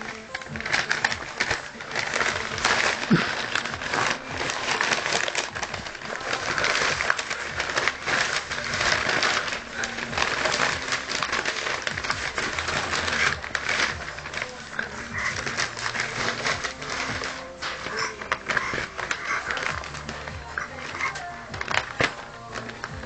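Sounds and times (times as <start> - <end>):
newspaper rustling and crinkling: 0.0 - 23.0.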